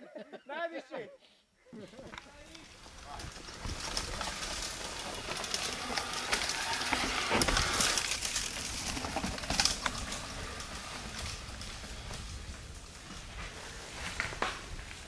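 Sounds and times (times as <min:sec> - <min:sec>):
bike tyres crunching over stones: 0:01.8 - 0:15.0.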